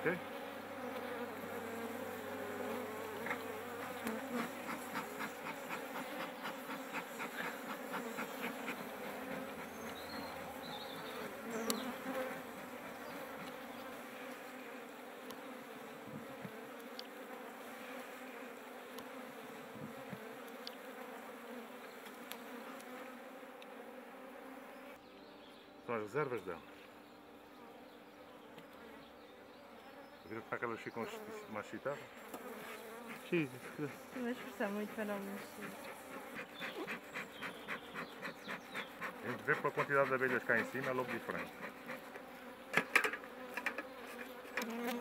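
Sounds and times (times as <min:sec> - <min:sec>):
bees buzzing: 0:00.0 - 0:25.1, 0:27.4 - 0:45.0.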